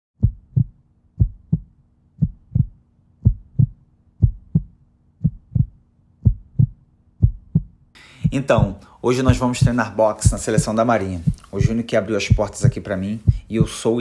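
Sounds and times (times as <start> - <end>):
heartbeat thumps: 0.2 - 14.0.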